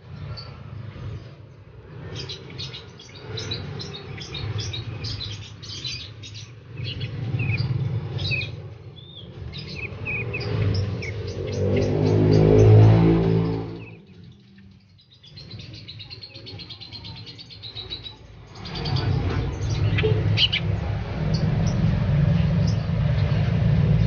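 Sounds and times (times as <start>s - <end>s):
caged songbirds chirping: 0.0s - 24.0s.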